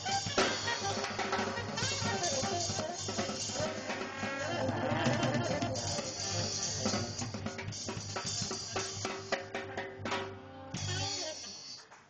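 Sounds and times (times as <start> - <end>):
live band music: 0.0 - 11.9
drums and cymbals hits: 0.0 - 12.0.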